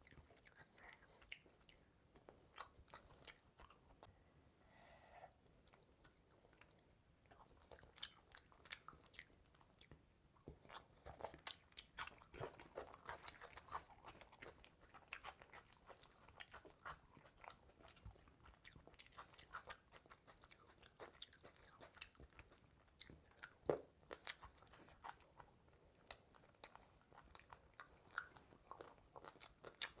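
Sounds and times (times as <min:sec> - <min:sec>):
person chewing and crunching fish: 0:00.0 - 0:04.1, 0:05.7 - 0:30.0.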